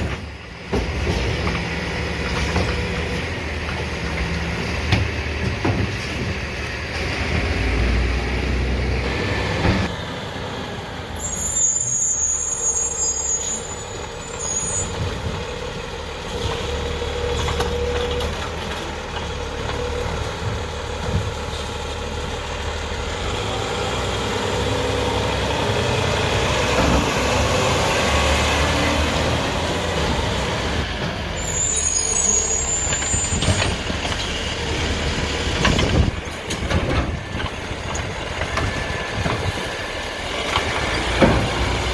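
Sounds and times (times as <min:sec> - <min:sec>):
garbage truck engine rumbling: 0:00.0 - 0:41.9.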